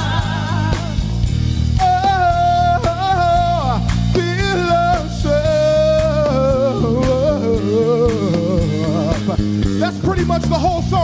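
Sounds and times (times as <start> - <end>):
bass: 0.0 - 11.0
drum beat: 0.0 - 11.0.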